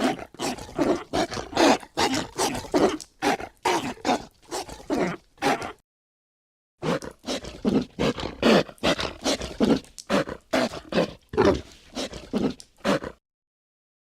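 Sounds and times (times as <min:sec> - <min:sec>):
creature guttural vocal bursts: 0:00.0 - 0:05.8, 0:06.8 - 0:13.2.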